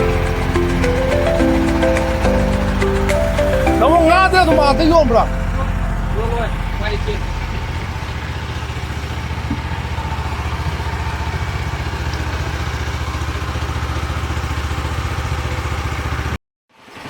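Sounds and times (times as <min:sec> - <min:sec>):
engine running steadily: 0:00.0 - 0:16.3.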